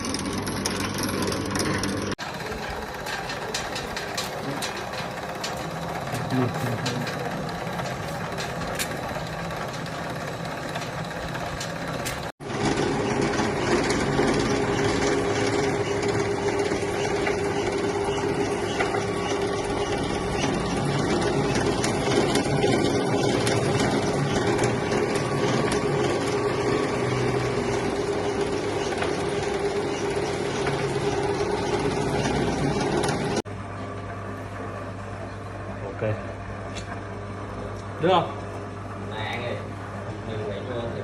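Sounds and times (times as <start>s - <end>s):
rollers clicking rapidly: 0.0s - 33.4s
motor humming: 0.0s - 40.9s.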